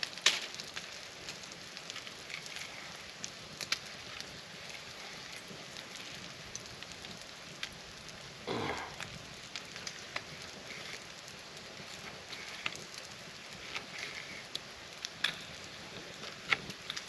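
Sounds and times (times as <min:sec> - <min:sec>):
campfire crackling and popping: 0:00.0 - 0:17.0
steady hiss: 0:00.0 - 0:17.0.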